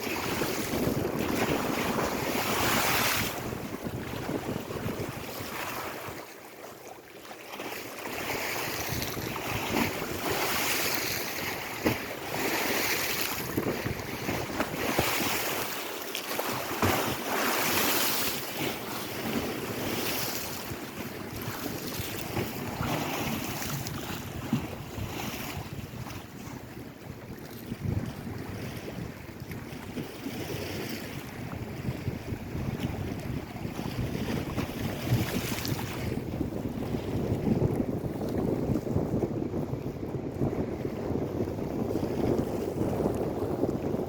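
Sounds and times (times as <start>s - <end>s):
wind buffeting microphone: 0.0s - 6.4s, 8.0s - 15.8s, 16.5s - 44.0s
lake waves breaking: 0.0s - 44.0s.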